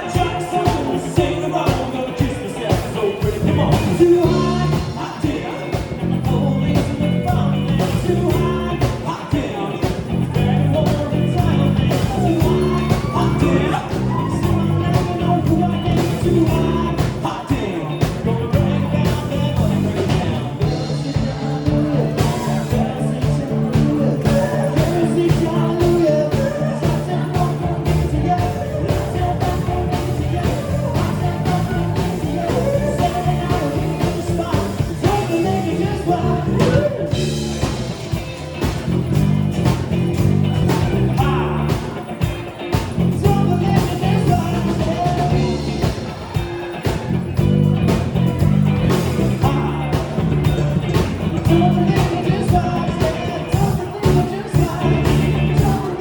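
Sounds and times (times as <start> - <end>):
lead singer: 0.0 - 56.0
regular drum beat: 0.0 - 56.0
steady bass line: 0.0 - 56.0.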